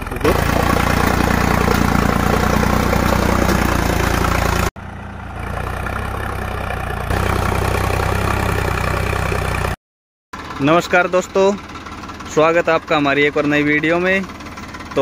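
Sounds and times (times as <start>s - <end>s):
tractor diesel engine running: 0.0s - 9.8s, 10.4s - 15.0s.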